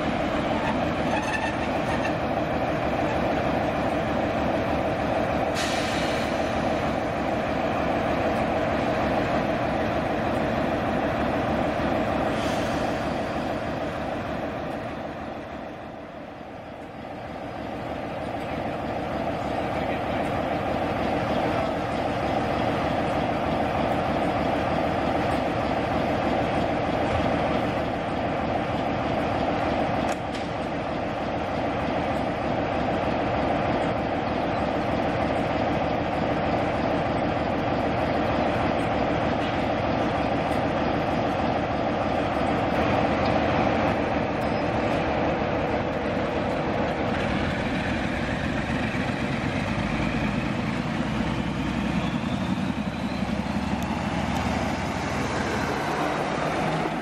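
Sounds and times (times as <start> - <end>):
diesel locomotives idling: 0.0 - 57.0
rising diesel engine whine: 0.0 - 57.0.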